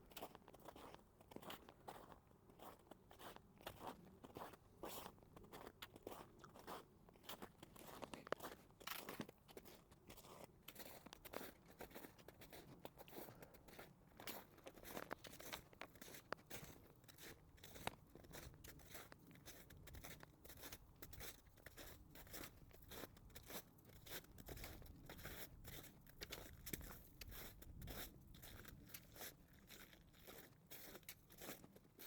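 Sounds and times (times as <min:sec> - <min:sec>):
footsteps crunching through snow: 0:00.1 - 0:32.0.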